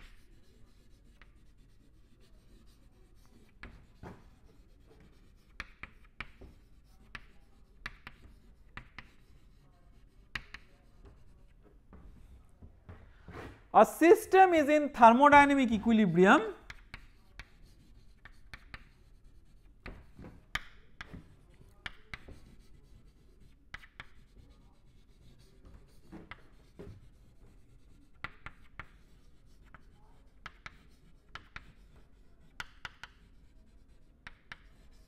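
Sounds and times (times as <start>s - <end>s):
chalk tapping and scratching on board: 0.0s - 13.6s, 15.3s - 35.0s.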